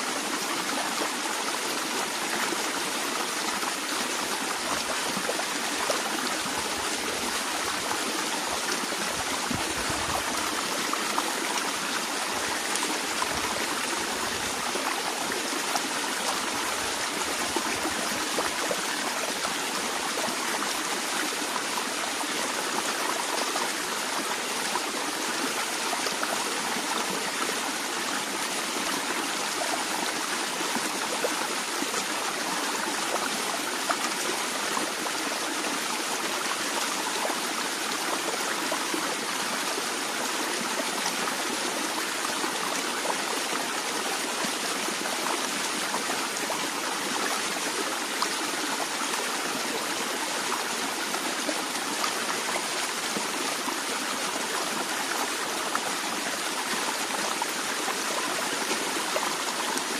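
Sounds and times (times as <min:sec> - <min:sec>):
stream trickling over stones: 0:00.2 - 0:59.9.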